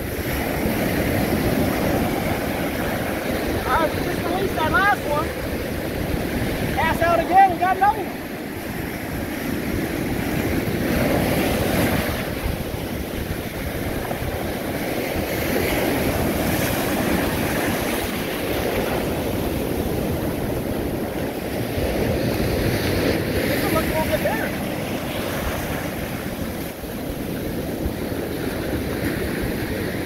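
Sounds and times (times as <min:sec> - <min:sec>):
ocean surf breaking on shore: 0:00.0 - 0:30.0
wind on microphone: 0:00.0 - 0:30.0.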